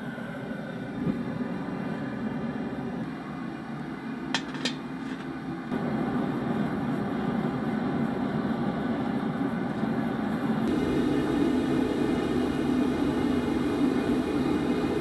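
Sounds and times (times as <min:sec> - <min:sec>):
gas forge burner roaring: 0:00.0 - 0:15.0.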